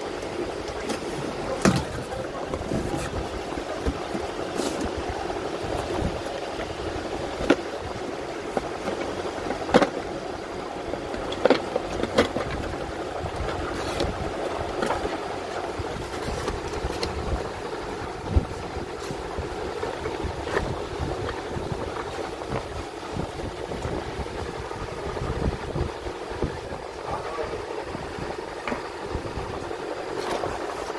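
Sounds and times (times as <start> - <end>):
steady background rumble: 0.0 - 30.9.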